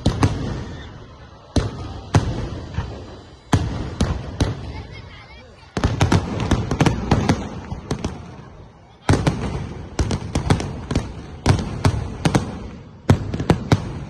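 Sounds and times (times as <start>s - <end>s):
fireworks cracking bangs: 0.0s - 14.0s.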